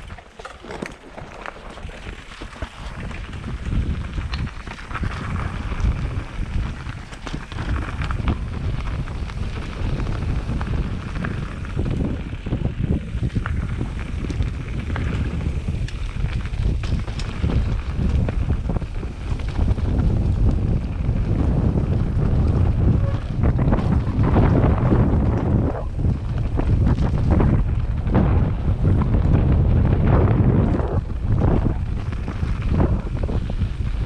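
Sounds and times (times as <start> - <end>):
bike clattering over bumps: 0.0 - 34.0
wind rumbling on microphone: 0.0 - 34.0.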